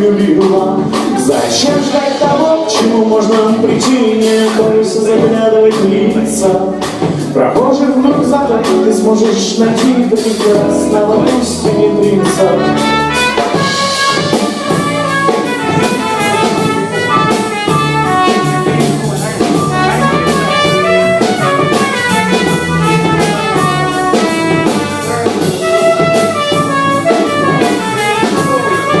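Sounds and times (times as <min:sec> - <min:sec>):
drum kit beat: 0:00.0 - 0:29.0
horn-like lead melody: 0:00.0 - 0:29.0
live instrumental band: 0:00.0 - 0:29.0.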